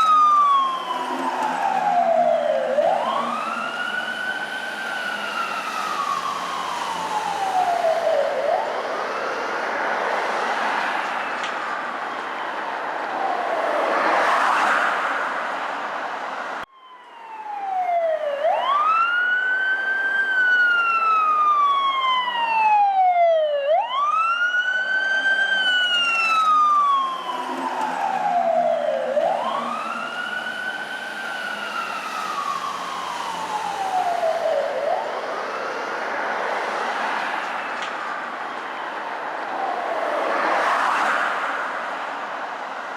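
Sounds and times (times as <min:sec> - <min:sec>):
emergency siren wailing: 0:00.0 - 0:42.9.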